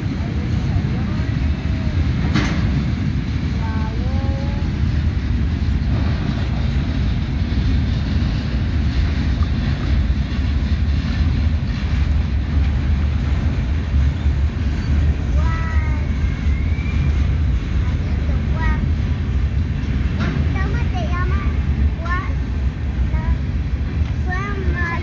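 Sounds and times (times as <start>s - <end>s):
freight train wagons rolling: 0.0s - 25.0s.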